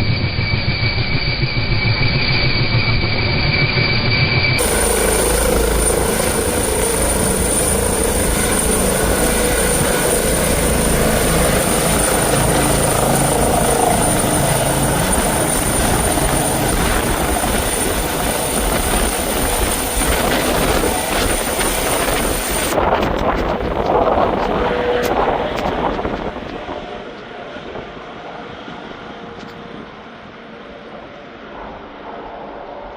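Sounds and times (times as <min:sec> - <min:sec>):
helicopter running: 0:00.0 - 0:32.9.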